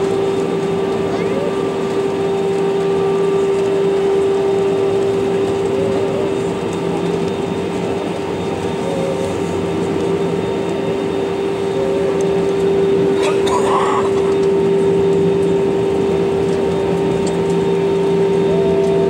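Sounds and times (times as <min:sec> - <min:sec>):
aircraft engines and air conditioning: 0:00.0 - 0:19.0
mid-pitched hum: 0:00.0 - 0:19.0.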